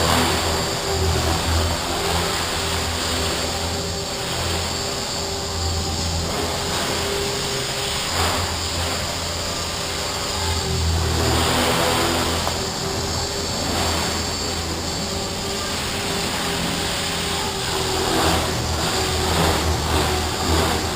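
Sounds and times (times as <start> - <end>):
electric motor whine: 0.0 - 20.9
helicopter rotor buzzing: 0.0 - 20.9.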